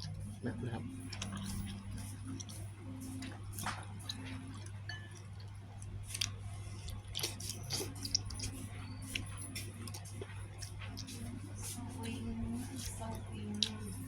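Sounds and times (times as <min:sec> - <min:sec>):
person chewing noodles: 0:00.0 - 0:11.8, 0:13.4 - 0:14.0.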